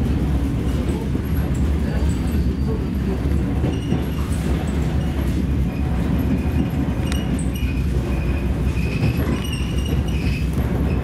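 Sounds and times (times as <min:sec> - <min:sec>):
train rumbling on rails: 0:00.0 - 0:11.0
wheel squeaks: 0:02.0 - 0:11.0.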